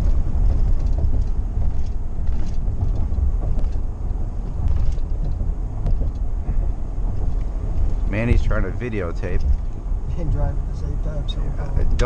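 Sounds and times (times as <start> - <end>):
car engine noise: 0.0 - 12.0
road rumble inside car: 0.0 - 12.0.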